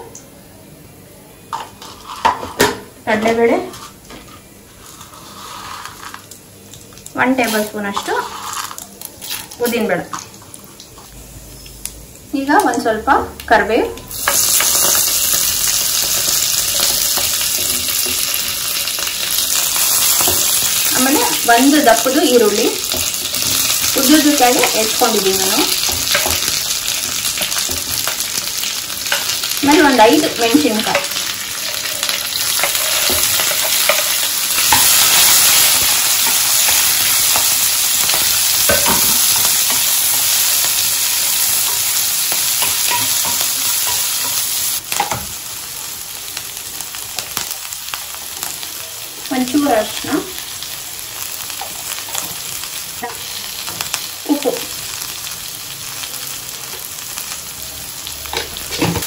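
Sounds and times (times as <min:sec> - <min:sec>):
vegetables sizzling in hot oil: 0:04.7 - 0:59.0.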